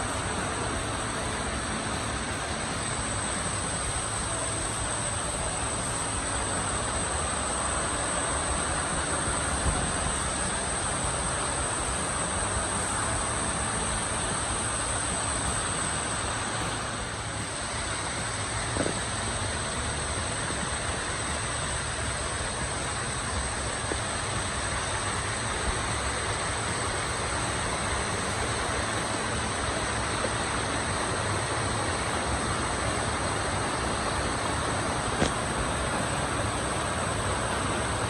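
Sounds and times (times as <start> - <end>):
steady high-pitched tone: 0.0 - 38.0
waterfall rushing: 0.0 - 38.0.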